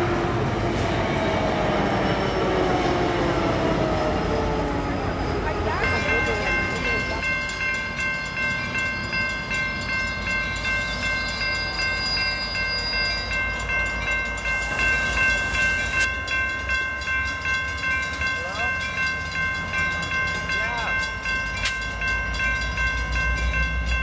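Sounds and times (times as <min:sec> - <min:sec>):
diesel locomotive rumble: 0:00.0 - 0:24.0
railroad warning bell ringing: 0:00.0 - 0:24.0.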